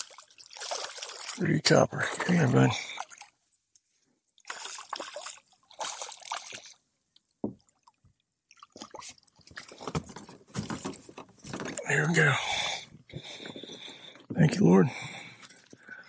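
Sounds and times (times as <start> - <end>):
water splashing and sloshing: 0.0 - 14.3.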